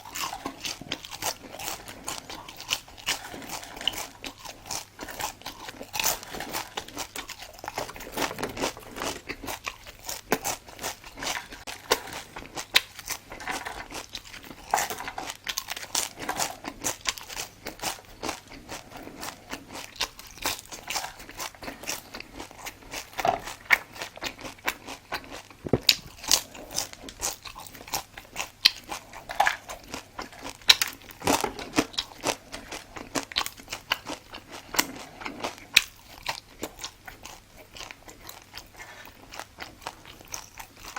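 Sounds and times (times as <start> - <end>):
crunchy food chewing: 0.0 - 40.9
wet chewing: 0.0 - 40.9.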